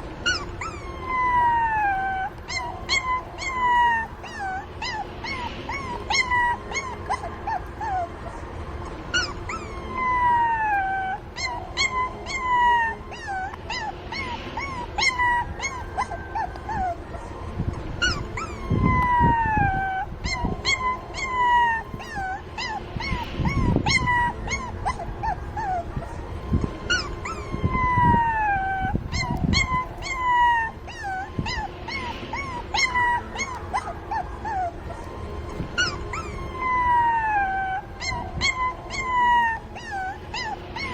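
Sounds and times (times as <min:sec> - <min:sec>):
puppies whining and crying: 0:00.0 - 0:40.9.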